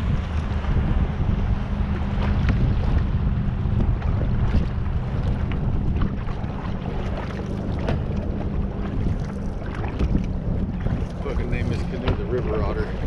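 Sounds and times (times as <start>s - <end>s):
paddle splashing: 0.0s - 13.0s
water lapping: 0.0s - 13.0s
wind on microphone: 0.0s - 13.0s.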